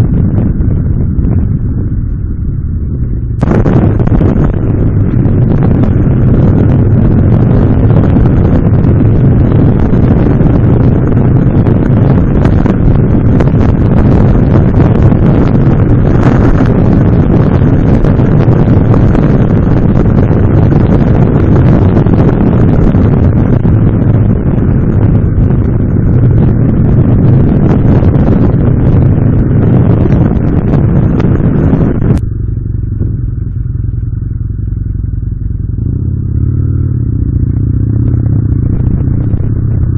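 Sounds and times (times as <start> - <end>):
motorbike engine drone: 0.0 - 39.9
wind rushing over microphone: 0.0 - 39.9.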